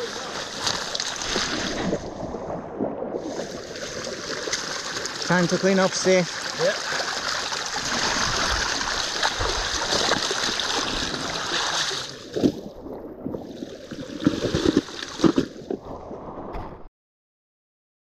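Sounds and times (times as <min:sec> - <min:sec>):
water splashing in a stream: 0:00.0 - 0:16.7.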